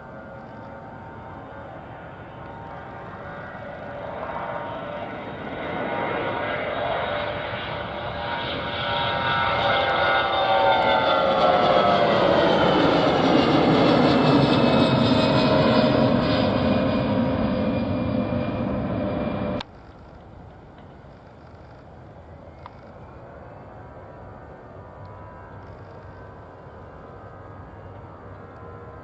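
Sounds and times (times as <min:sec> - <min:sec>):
aircraft engines passing: 0:00.0 - 0:29.0.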